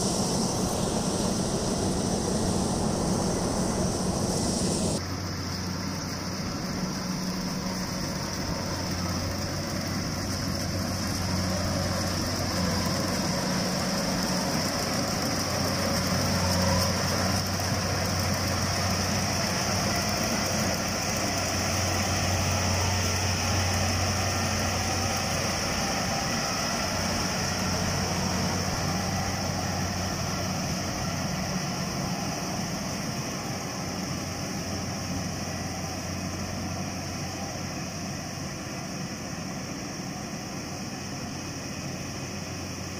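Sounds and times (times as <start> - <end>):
combine harvester running: 0.0 - 42.9.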